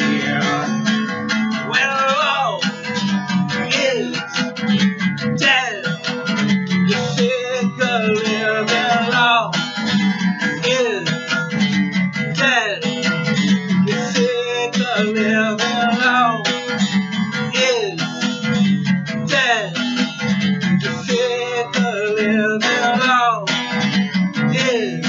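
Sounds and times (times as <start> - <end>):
acoustic guitar strumming: 0.0 - 25.0
sliding guitar notes: 0.0 - 25.0.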